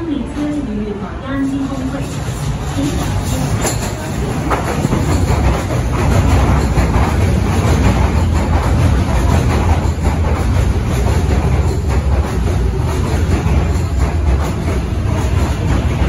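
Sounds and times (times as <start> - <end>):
metro train wheels on rail: 0.0 - 16.0.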